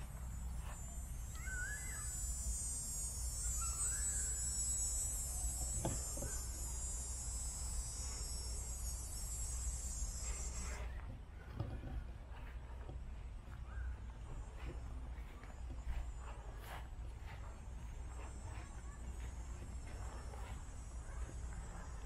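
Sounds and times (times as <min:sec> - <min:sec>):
high-pitched insect buzz: 0:00.0 - 0:22.0.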